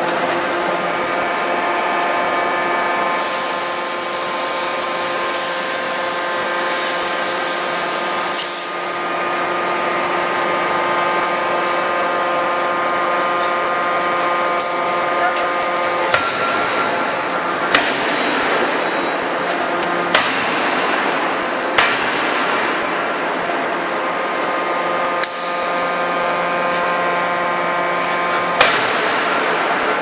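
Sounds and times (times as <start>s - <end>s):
industrial machinery droning: 0.0s - 30.0s.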